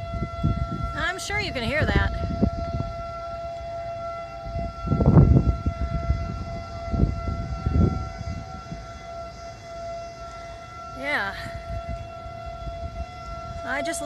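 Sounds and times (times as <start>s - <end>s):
tornado warning siren: 0.0s - 14.0s.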